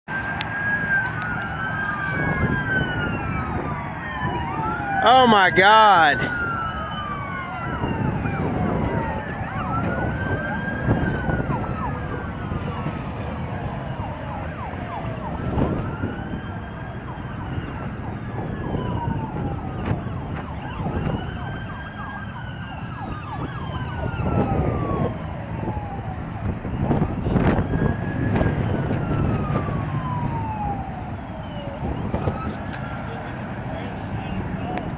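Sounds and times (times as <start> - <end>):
police sirens wailing: 0.1 - 34.9
road and engine rumble: 0.1 - 34.9.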